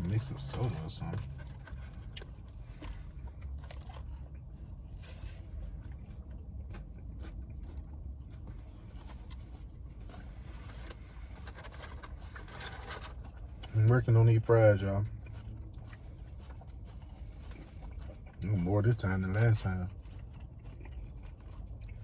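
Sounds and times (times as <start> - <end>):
person chewing crunchy fries: 0.0 - 22.0
steady low hum: 0.0 - 22.0.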